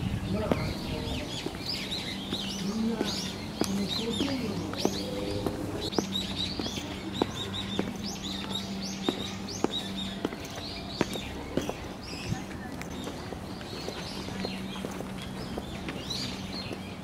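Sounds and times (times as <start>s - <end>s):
footsteps on stone steps: 0.0s - 17.0s
small birds chirping: 0.0s - 17.0s.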